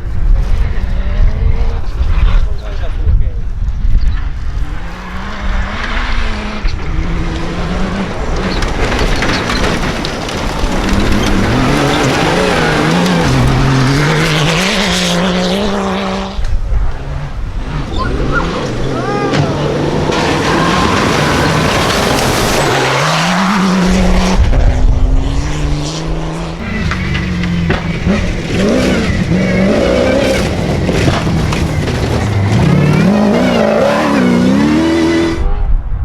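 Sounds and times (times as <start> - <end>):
rally engine revving hard: 4.5 - 35.4.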